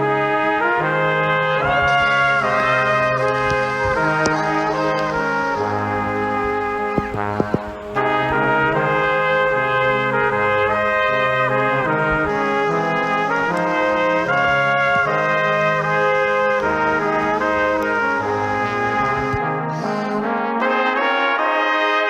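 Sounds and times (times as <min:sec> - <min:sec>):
instrumental music sustained chords: 0:00.0 - 0:22.0.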